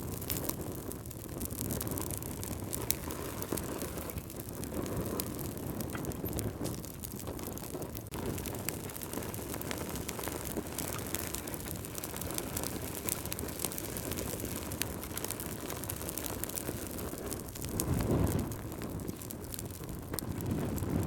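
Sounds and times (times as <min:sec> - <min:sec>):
logs crackling and popping: 0:00.0 - 0:21.0
low rush of flames: 0:00.0 - 0:21.0.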